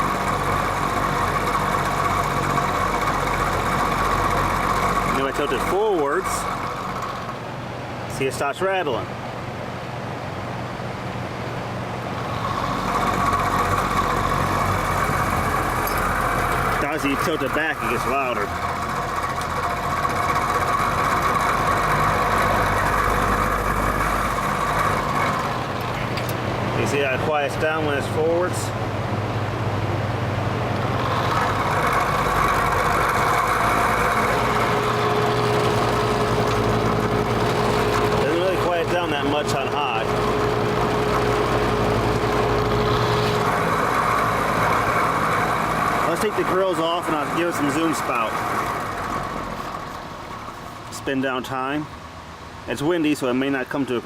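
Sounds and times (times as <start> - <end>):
box fan motor humming: 0.0 - 51.0
fan rattle: 0.0 - 54.0.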